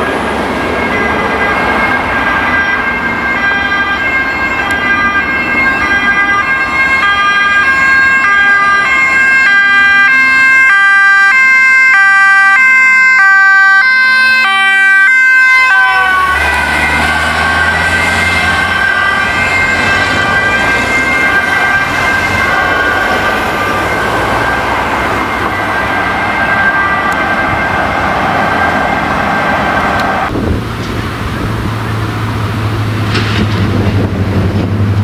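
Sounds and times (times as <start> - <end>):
two-tone siren: 0.0 - 30.4.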